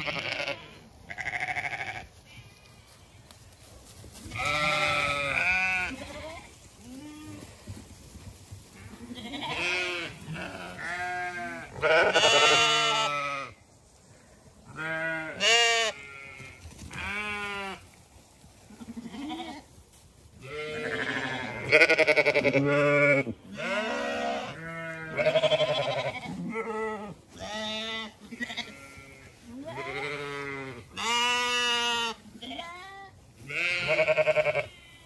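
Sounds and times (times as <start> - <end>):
sheep bleating: 0.0 - 2.6, 4.3 - 7.5, 8.8 - 13.6, 14.7 - 17.8, 18.7 - 19.6, 20.4 - 35.0.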